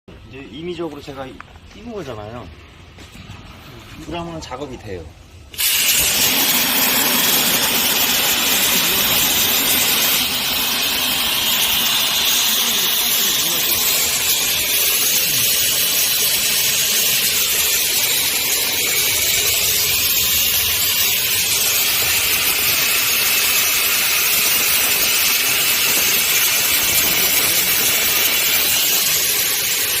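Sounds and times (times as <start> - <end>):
plasma torch hissing: 5.5 - 30.0.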